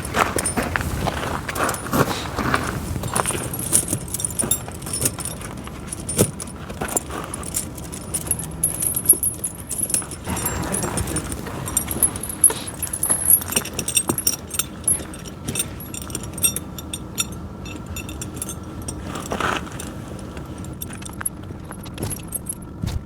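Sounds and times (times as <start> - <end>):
metal chain links clinking: 0.0 - 22.8.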